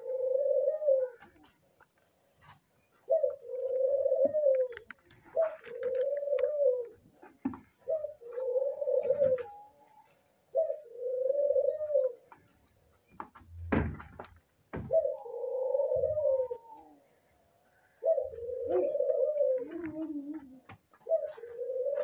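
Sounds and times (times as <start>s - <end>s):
doves cooing: 0.0s - 1.6s, 2.4s - 12.6s, 14.7s - 22.0s.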